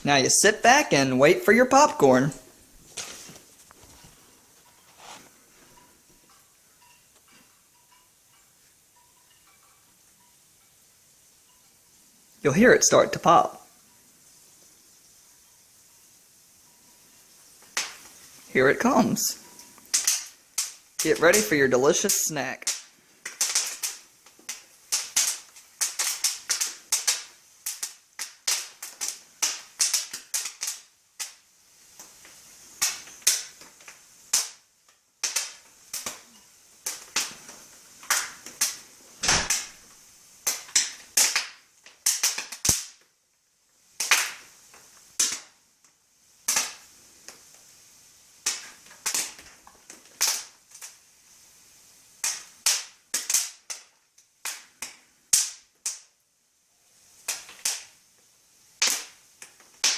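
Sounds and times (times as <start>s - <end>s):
popcorn popping in hot oil: 0.0s - 59.9s.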